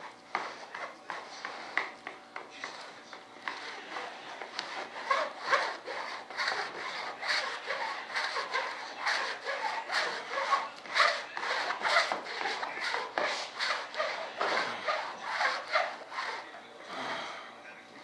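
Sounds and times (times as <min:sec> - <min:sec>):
sponge rubbing wet cloth: 0:00.0 - 0:16.7.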